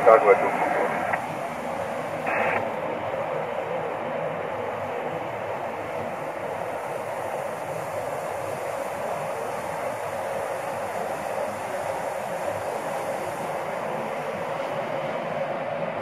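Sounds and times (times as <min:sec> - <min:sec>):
cockpit airflow hiss: 0:00.0 - 0:16.0.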